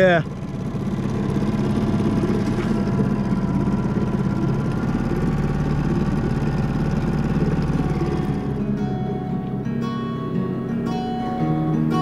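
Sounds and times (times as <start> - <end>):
small boat engine running: 0.0 - 12.0.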